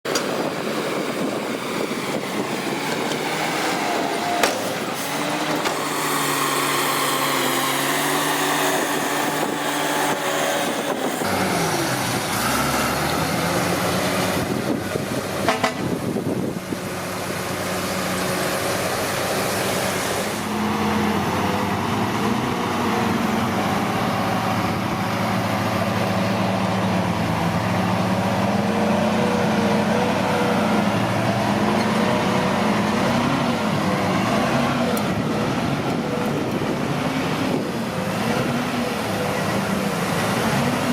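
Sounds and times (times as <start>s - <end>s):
heavy diesel machinery working: 0.1s - 40.9s.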